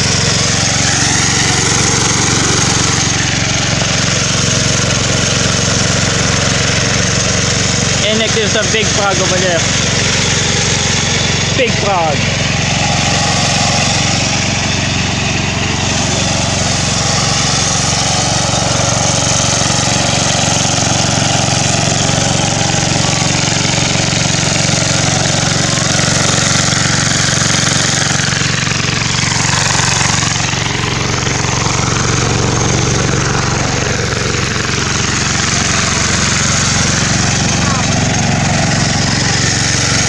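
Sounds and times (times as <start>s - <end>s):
small tractor engine running: 0.0s - 40.0s.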